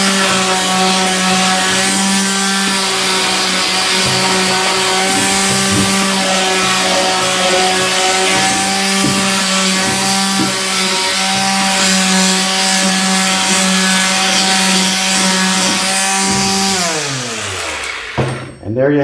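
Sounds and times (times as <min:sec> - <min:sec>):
electric sander on wood: 0:00.0 - 0:18.6.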